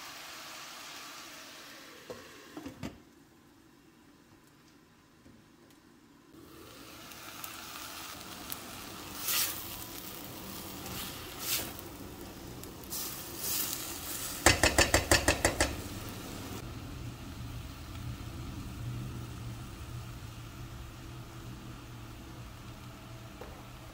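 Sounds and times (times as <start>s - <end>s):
vegetables sizzling in oil: 0.0s - 2.6s, 6.4s - 23.9s.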